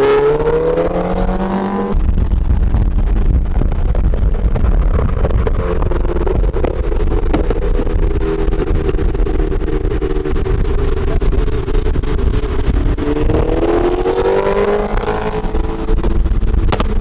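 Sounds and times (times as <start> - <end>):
car engine drone: 0.0 - 17.0
tyre noise at highway speed: 0.0 - 17.0.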